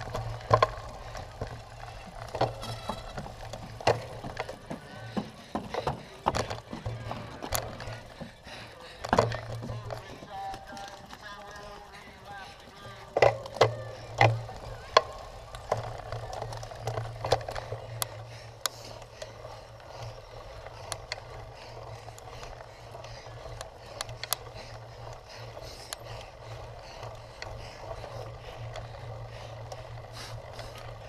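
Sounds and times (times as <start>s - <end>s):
bike clicks and rattles: 0.0s - 31.0s
bike tyres rumbling on rough ground: 0.0s - 31.0s.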